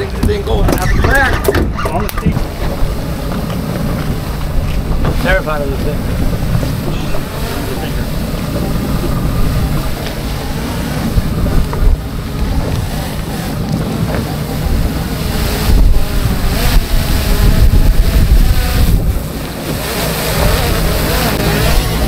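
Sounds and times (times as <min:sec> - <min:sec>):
motorboat motor running: 0:00.0 - 0:22.0
wind buffeting microphone: 0:00.0 - 0:22.0.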